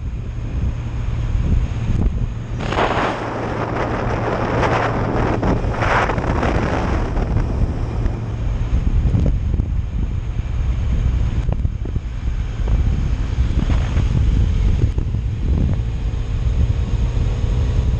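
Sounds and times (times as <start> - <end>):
rushing noise: 0.0 - 17.2
motorcycle engine hum: 0.0 - 17.9
wind buffeting microphone: 0.0 - 17.9.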